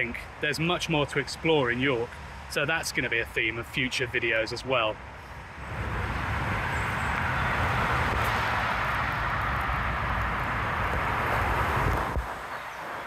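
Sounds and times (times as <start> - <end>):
fast road traffic rushing: 0.0 - 13.0.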